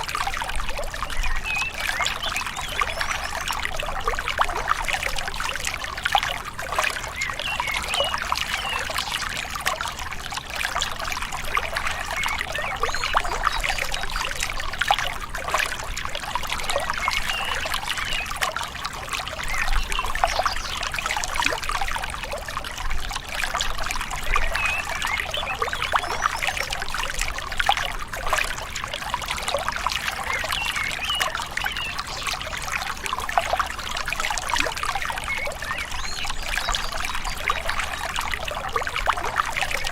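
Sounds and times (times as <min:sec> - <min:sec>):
river water trickling over stones: 0:00.0 - 0:39.9.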